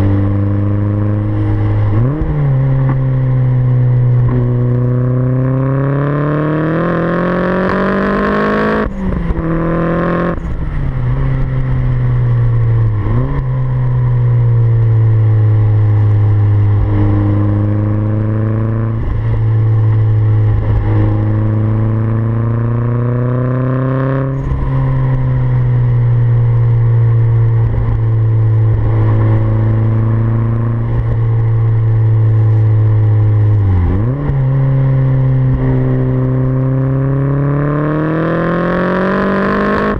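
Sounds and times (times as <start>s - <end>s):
turbocharged car engine revving: 0.0s - 39.9s.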